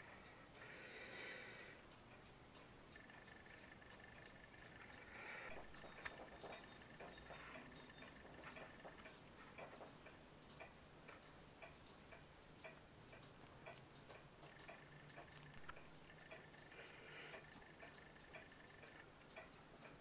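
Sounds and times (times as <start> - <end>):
clock ticking faintly: 0.0 - 20.0.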